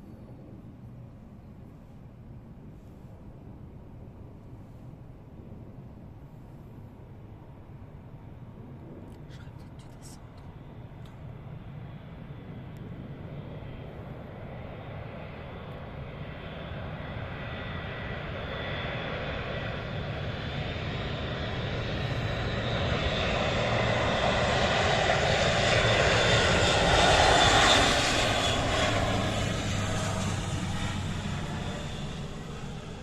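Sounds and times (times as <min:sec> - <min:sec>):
military aircraft engines: 0:00.0 - 0:33.0.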